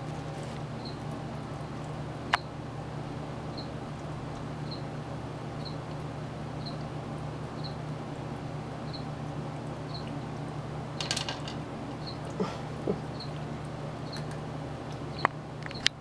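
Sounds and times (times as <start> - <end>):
water fountain pump hum: 0.0 - 16.0.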